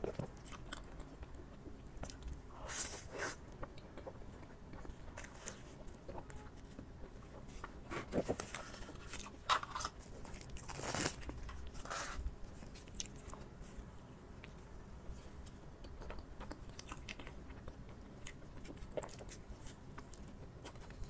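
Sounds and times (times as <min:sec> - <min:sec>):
person chewing soft cake: 0:00.0 - 0:21.0.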